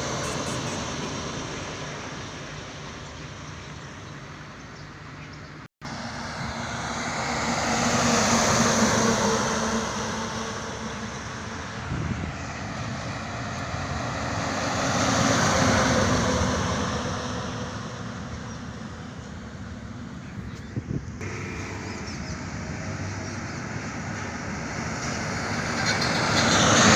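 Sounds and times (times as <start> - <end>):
heavy vehicles passing on highway: 0.0 - 26.9.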